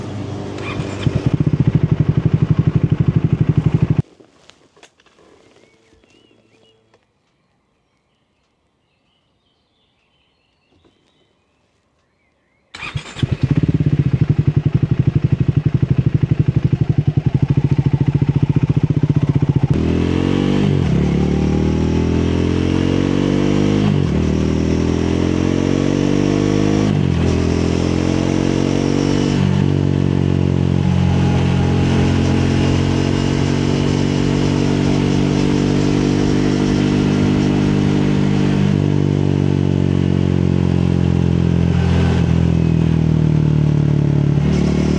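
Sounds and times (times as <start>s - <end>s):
motorcycle engine idling and accelerating: 0.0s - 6.3s, 12.7s - 44.9s.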